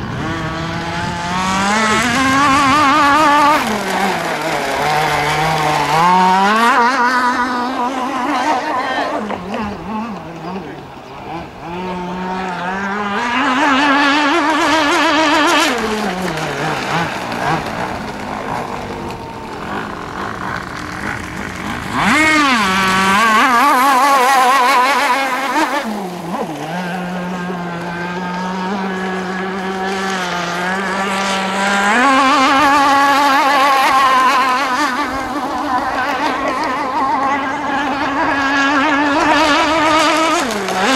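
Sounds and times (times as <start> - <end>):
two-stroke speedboat engine: 0.0 - 40.9.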